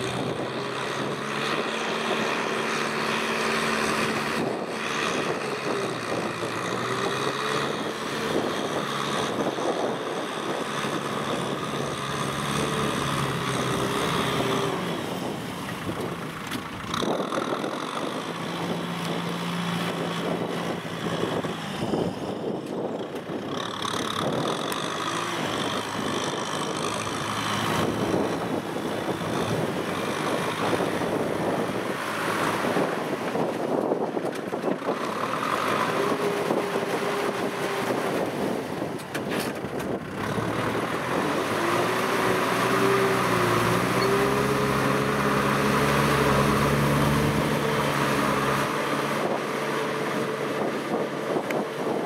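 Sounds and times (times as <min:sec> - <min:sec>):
tractor diesel engine running hard: 0:00.0 - 0:52.0.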